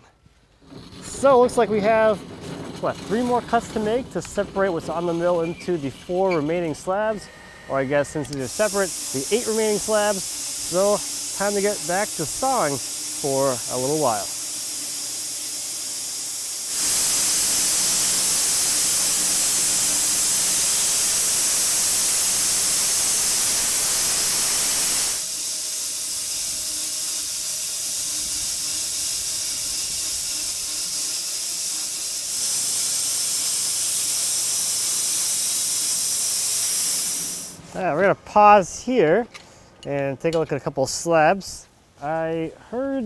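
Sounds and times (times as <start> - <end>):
bandsaw blade sawing log: 0.6 - 37.6
electric motor hum: 0.6 - 37.9.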